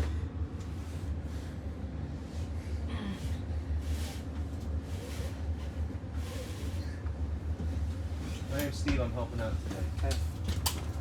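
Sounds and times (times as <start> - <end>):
bus cabin rumble: 0.0 - 11.0.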